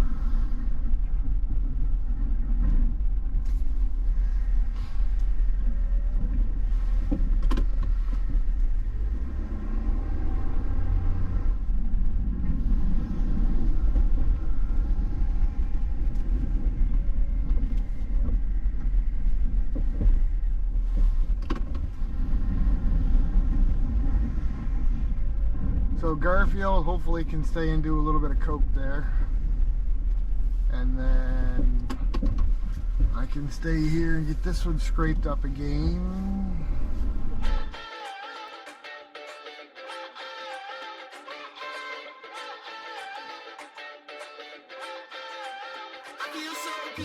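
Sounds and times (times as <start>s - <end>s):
pickup truck engine rumble: 0.0s - 37.8s.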